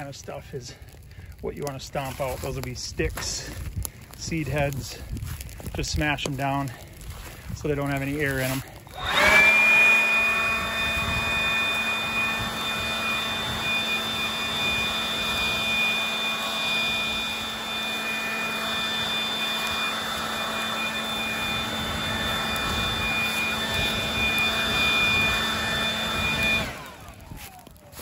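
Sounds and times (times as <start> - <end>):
leaf blower running: 0.0 - 28.0.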